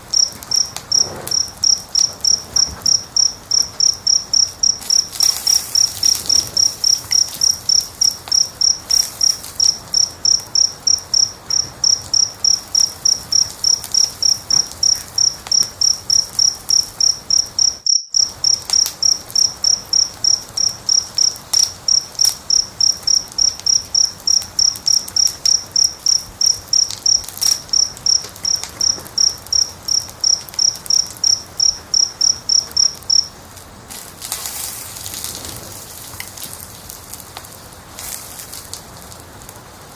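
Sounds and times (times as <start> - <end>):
cricket chirping: 0.0 - 37.2
fire crackling and hissing: 0.0 - 39.9.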